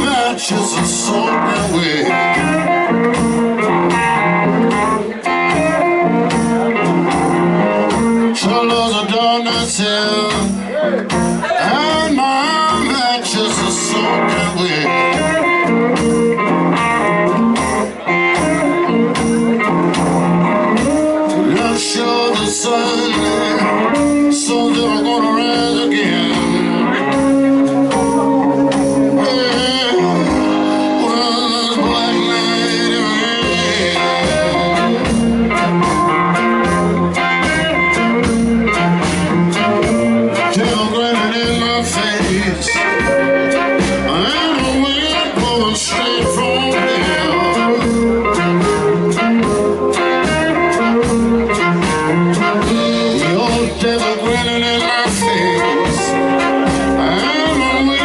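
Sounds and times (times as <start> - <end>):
blues band playing: 0.0 - 58.0
drums: 0.0 - 58.0
guitar: 0.0 - 58.0
steady bass line: 0.0 - 58.0.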